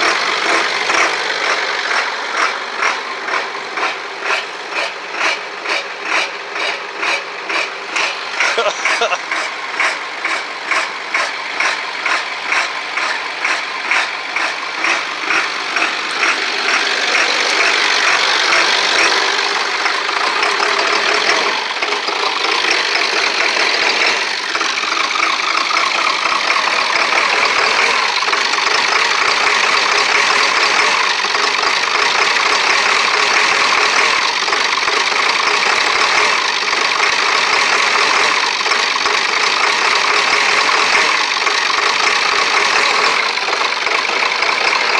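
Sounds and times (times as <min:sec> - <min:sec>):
diesel engine clatter: 0:00.0 - 0:44.9
diesel engine cranking slowly: 0:00.0 - 0:44.9.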